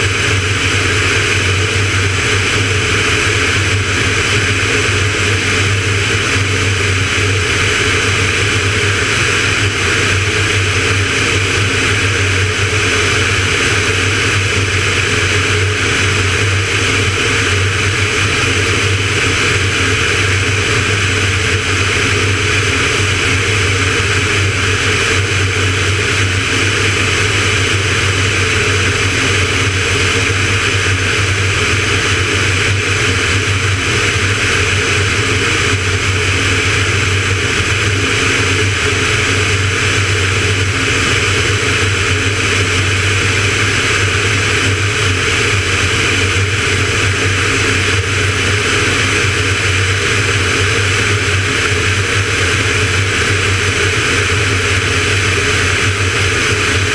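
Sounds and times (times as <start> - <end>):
propeller aircraft engine humming: 0.0 - 56.9.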